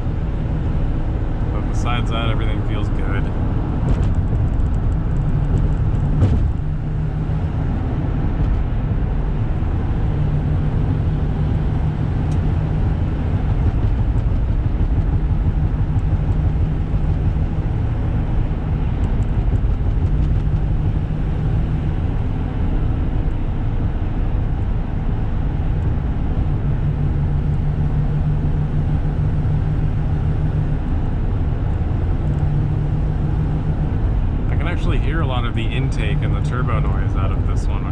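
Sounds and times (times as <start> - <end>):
intake and turbo noise: 0.0 - 37.9
road rumble: 0.0 - 37.9
turbo diesel engine cruising: 0.0 - 37.9.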